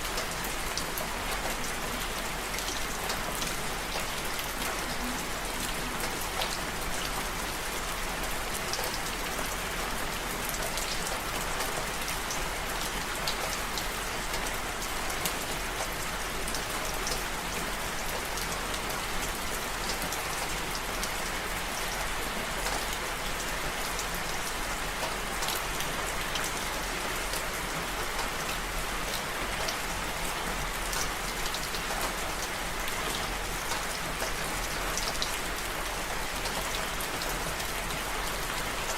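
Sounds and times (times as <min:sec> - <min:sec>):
raindrops ticking on a surface: 0:00.0 - 0:38.9.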